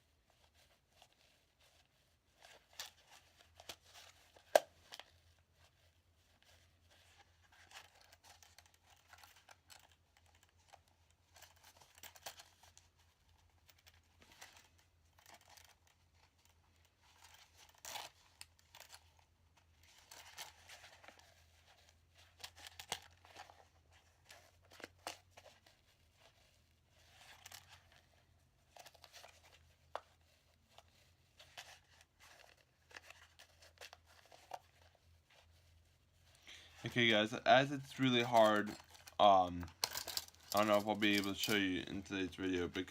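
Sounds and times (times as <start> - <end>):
handcuffs rustling and scraping: 0.0 - 42.9.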